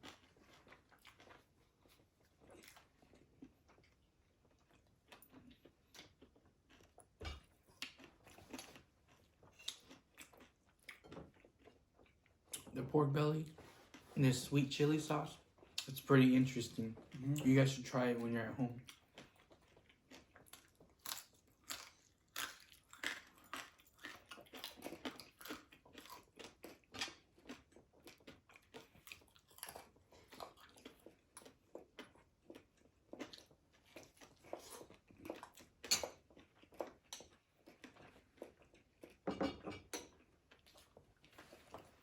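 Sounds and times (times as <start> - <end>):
chewing crispy fried food: 0.0 - 42.0.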